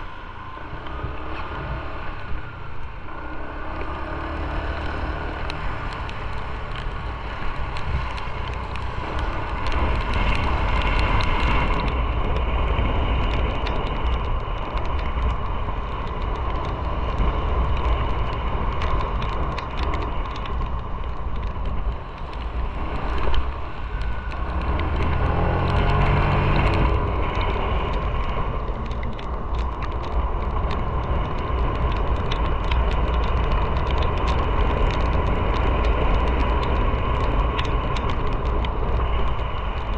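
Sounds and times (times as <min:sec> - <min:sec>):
motorcycle engine rumble: 0:00.0 - 0:39.9
tyres on wet road: 0:00.0 - 0:39.9
wind noise: 0:00.0 - 0:39.9.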